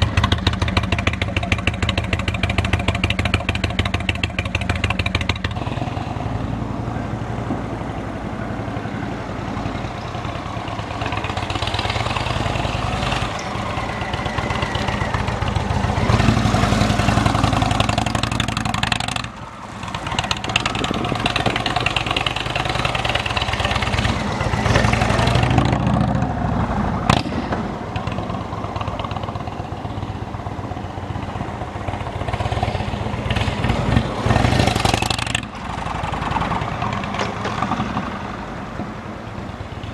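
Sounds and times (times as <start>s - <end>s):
motorcycle engine running: 0.0s - 6.4s, 9.6s - 38.2s.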